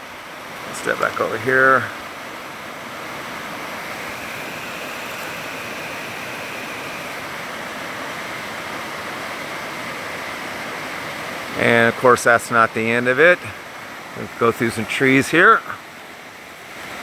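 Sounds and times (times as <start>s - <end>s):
small waterfall splashing: 0.0s - 17.0s.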